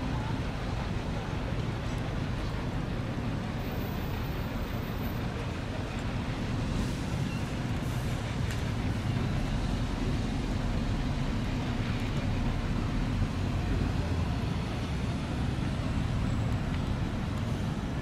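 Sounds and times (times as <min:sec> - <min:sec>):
low rumble of street traffic: 0:00.0 - 0:18.0.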